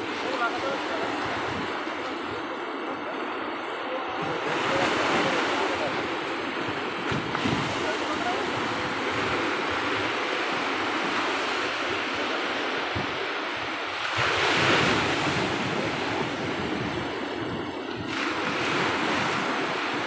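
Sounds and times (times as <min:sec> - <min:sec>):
surf breaking on sandy beach: 0:00.0 - 0:20.0.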